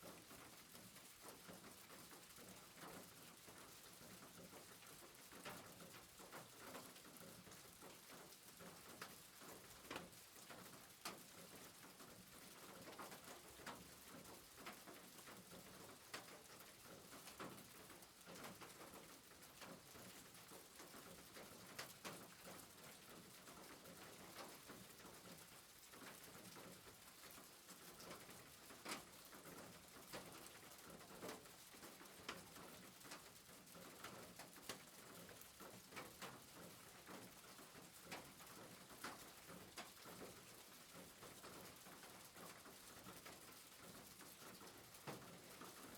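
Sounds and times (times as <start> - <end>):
rain pattering on a roof: 0.0 - 45.9.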